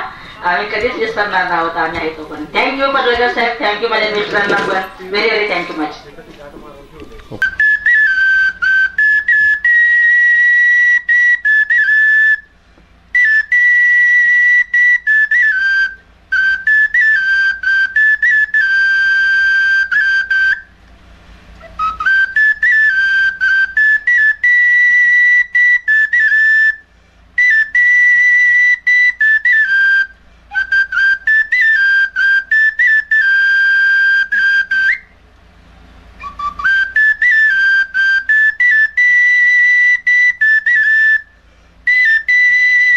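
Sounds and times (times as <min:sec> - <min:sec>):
bamboo flute melody: 0:06.5 - 0:20.8, 0:21.5 - 0:35.2, 0:36.1 - 0:42.9.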